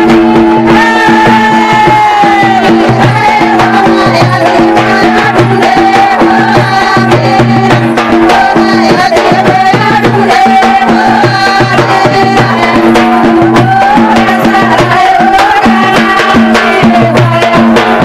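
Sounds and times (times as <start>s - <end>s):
drums keeping a steady beat: 0.0s - 18.0s
folk music played loud: 0.0s - 18.0s.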